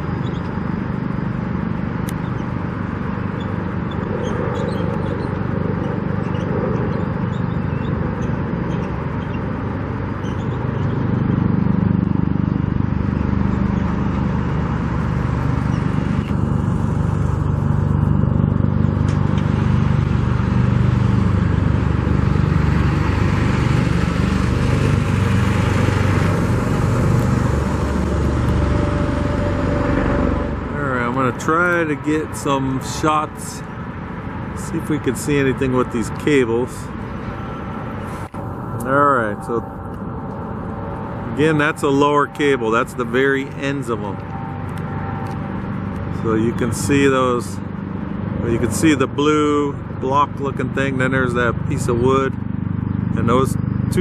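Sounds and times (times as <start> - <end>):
traffic engines humming: 0.0 - 54.0.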